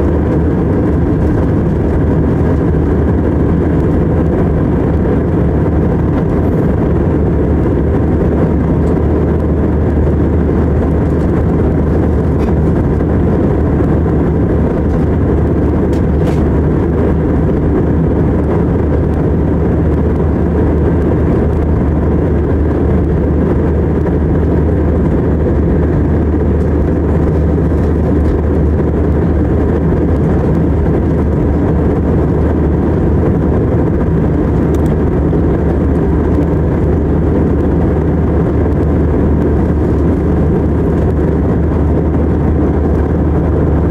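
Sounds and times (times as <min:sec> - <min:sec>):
airliner cabin engine drone: 0:00.0 - 0:43.9.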